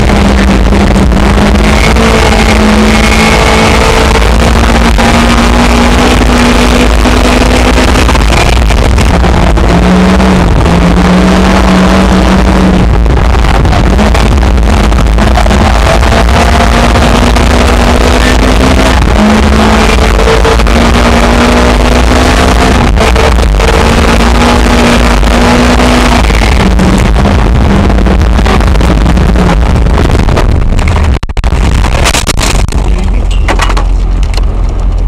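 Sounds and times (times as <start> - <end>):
car engine revving hard: 0.0 - 32.2.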